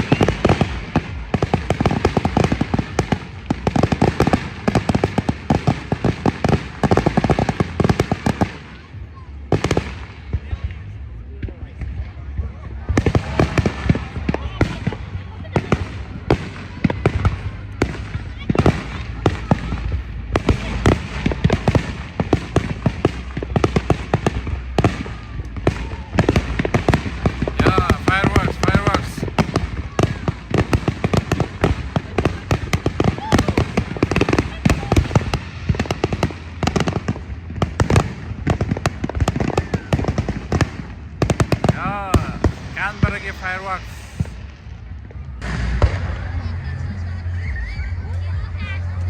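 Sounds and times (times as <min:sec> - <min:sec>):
fireworks crackling and popping: 0:00.0 - 0:49.0.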